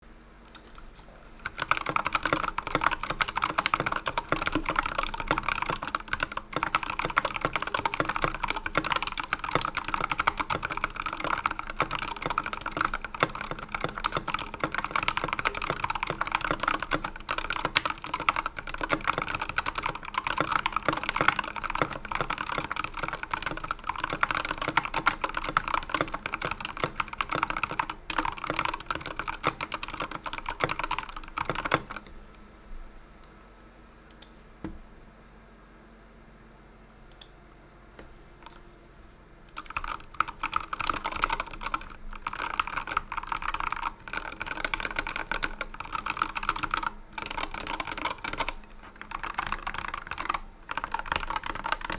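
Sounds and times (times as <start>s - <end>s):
mechanical keyboard typing: 1.4s - 32.1s, 39.5s - 51.9s.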